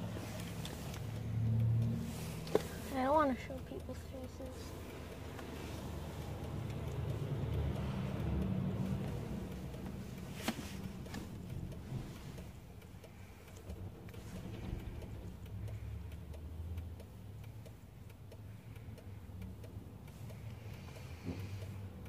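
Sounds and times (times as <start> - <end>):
faint clicks: 0.0 - 22.0
road traffic rumble: 0.0 - 22.0.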